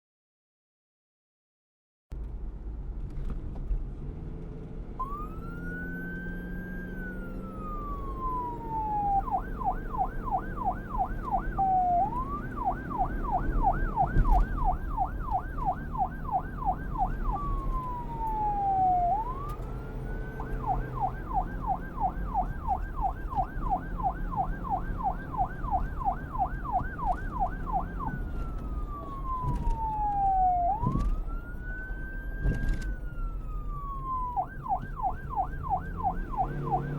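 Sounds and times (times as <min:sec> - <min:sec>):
police car siren wailing and yelping: 0:05.0 - 0:36.9.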